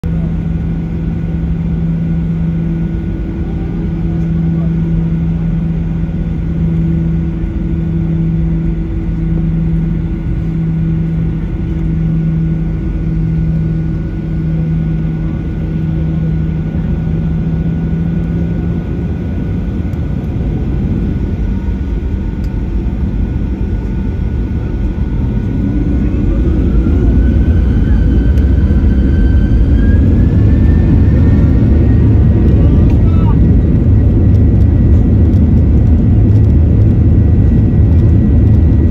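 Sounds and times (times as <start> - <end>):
jet engine rumble and whine: 0.0 - 38.9
low hum: 0.0 - 38.9.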